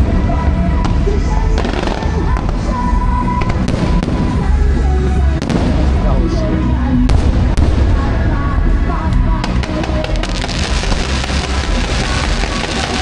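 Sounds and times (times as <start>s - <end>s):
fireworks cracking and booming: 0.0s - 13.0s
music: 0.0s - 13.0s.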